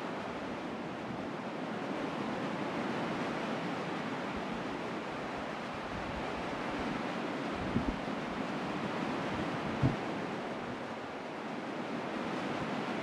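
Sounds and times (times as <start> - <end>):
sea waves washing over sand: 0.0 - 13.0.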